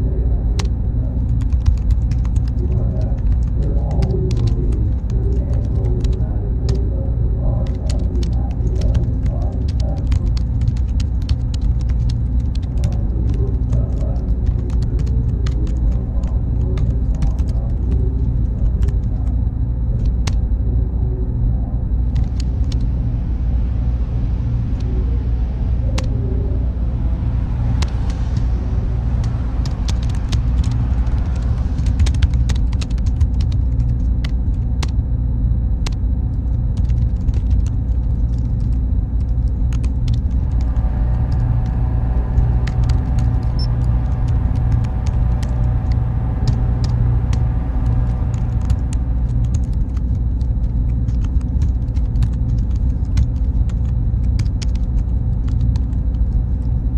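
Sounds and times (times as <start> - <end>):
keyboard typing: 0.0 - 19.4, 20.0 - 20.4, 22.1 - 22.8, 27.8 - 35.0, 35.8 - 56.7
faint high whine: 0.0 - 56.9
mid-pitched hums: 0.0 - 56.9
server room drone: 0.0 - 56.9.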